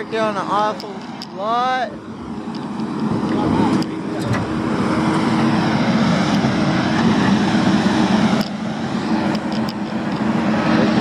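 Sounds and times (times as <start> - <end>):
heavy machine engine roaring: 0.0 - 11.0.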